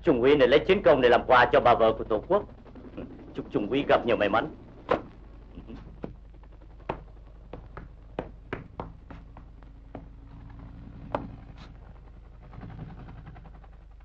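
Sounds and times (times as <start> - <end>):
film soundtrack crackle and clicks: 0.0 - 14.0
steady low hum: 0.0 - 14.0.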